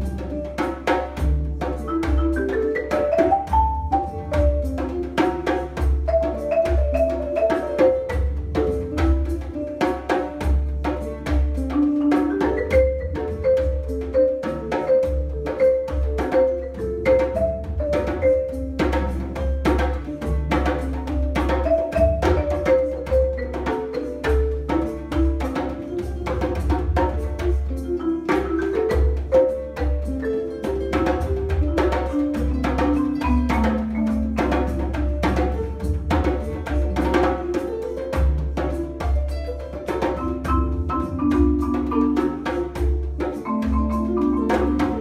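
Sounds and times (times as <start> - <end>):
djembe rhythm: 0.0 - 45.0
marimba melody: 0.0 - 45.0.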